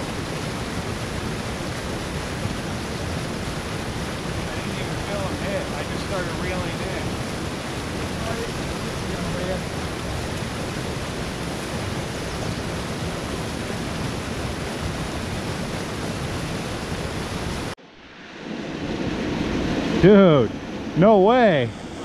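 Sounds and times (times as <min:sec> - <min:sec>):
water rushing over spillway: 0:00.0 - 0:17.8.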